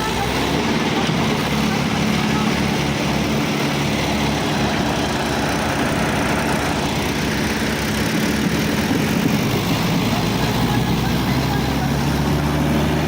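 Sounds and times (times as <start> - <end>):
tractor engines running hard: 0.0 - 13.0.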